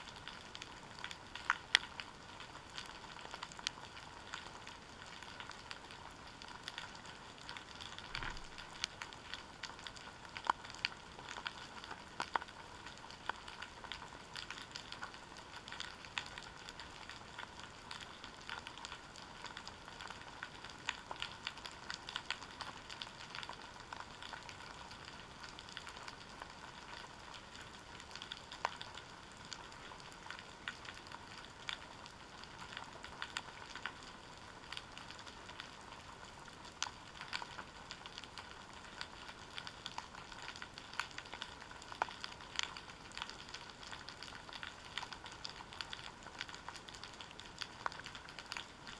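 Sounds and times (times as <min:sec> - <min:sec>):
crackle of sharp clicks: 0:00.0 - 0:48.9.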